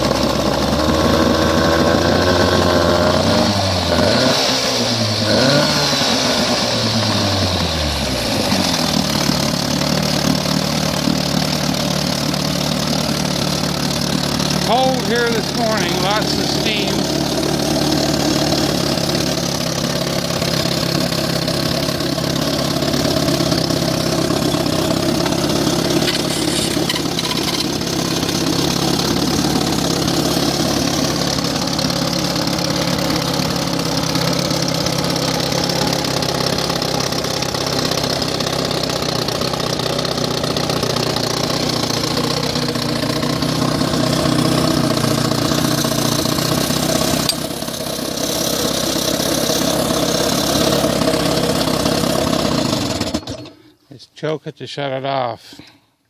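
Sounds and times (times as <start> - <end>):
two-stroke outboard motor idling: 0.0 - 53.8.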